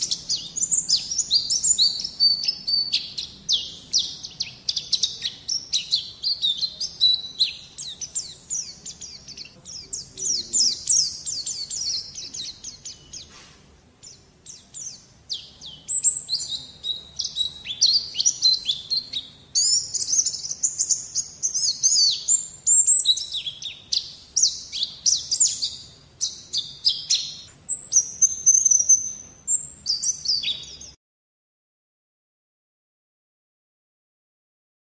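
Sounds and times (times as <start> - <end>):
bird twittering song: 0.0 - 31.0.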